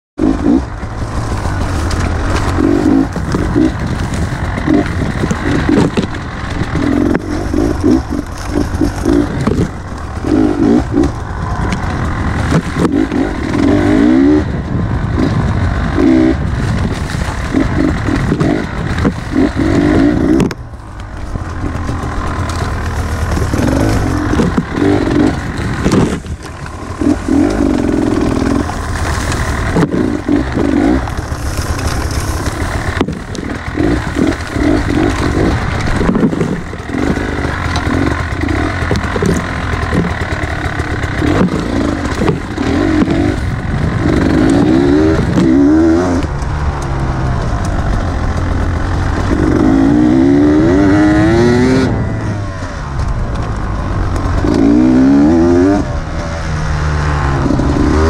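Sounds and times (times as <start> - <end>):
motorcycle engine revving: 0.2 - 58.0.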